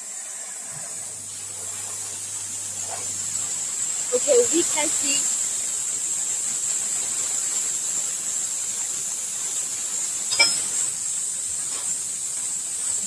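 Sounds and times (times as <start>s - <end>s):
plasma torch arc hissing: 0.0s - 13.0s.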